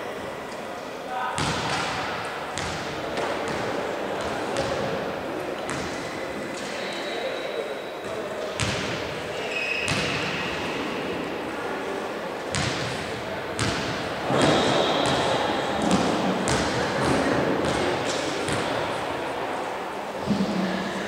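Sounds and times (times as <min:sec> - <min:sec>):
volleyballs thudding in echoing hall: 0:00.0 - 0:21.0.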